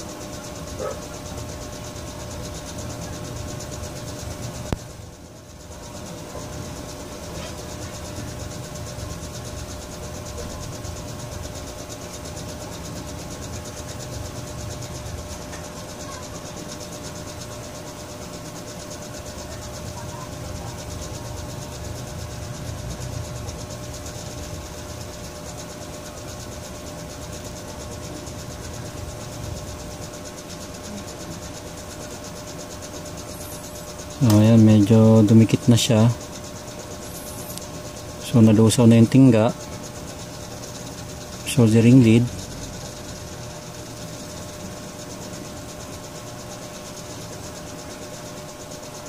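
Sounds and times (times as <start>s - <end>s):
faint constant hum: 0.0s - 49.0s.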